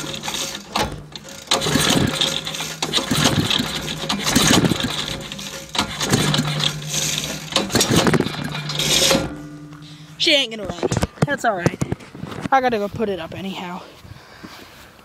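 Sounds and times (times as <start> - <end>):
lawn mower engine being pull-started: 0.0 - 12.5.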